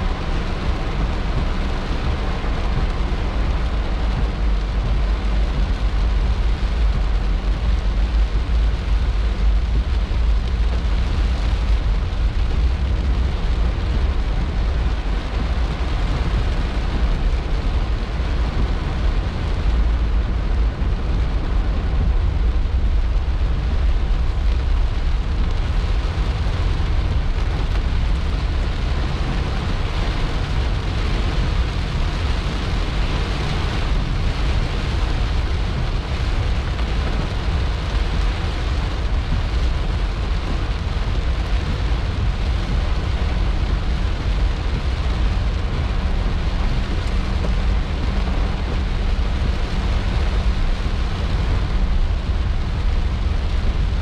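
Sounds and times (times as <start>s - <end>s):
car driving rumble: 0.0s - 54.0s
heavy rain on car roof: 0.0s - 54.0s.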